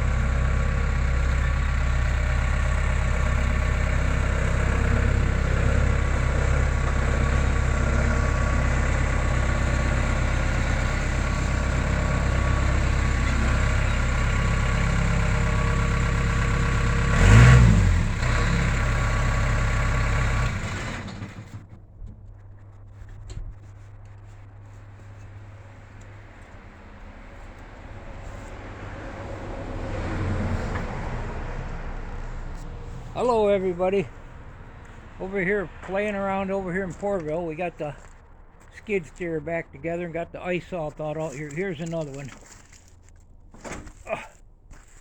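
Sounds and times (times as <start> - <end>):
skid steer engine running: 0.0 - 45.0.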